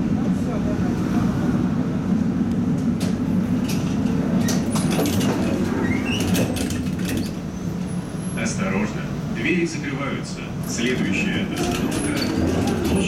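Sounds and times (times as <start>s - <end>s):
tram rumble: 0.0s - 13.0s.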